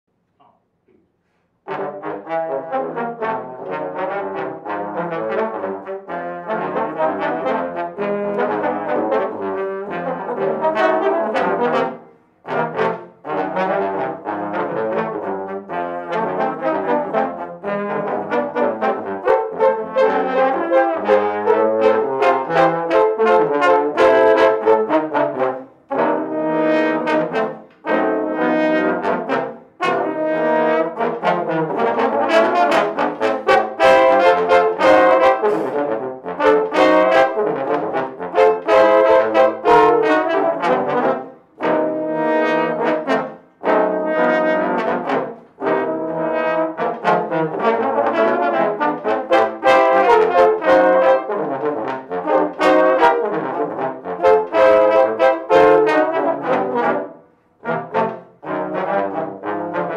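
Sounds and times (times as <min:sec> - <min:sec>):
trombone ensemble playing jazz: 0:01.7 - 0:59.9.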